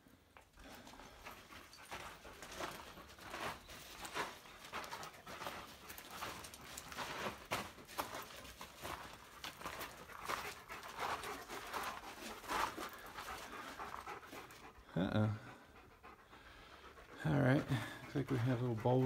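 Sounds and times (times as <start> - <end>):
dog panting: 0.6 - 19.0.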